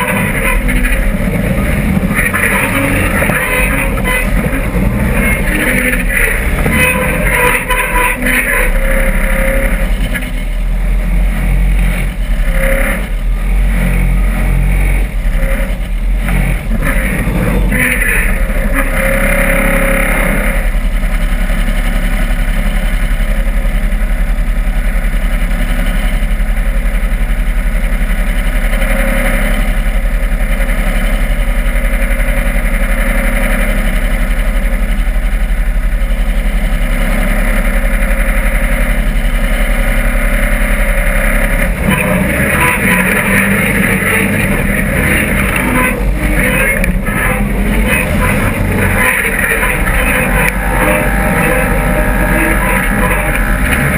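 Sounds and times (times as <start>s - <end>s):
buggy engine running under load: 0.0s - 53.9s.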